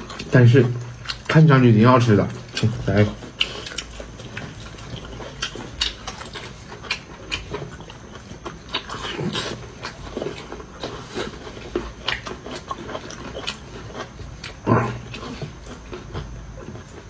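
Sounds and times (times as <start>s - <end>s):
person chewing wetly: 0.0s - 17.0s.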